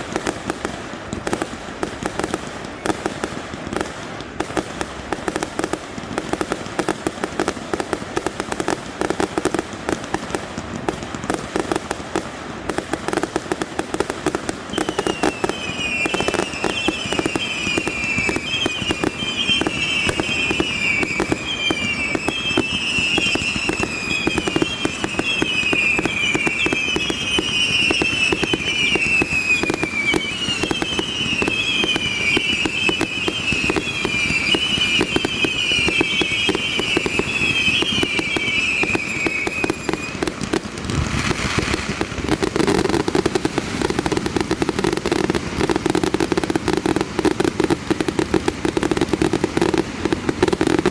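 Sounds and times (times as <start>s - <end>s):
fireworks bangs and crackling: 0.0s - 50.9s
whistling fireworks: 0.0s - 50.9s.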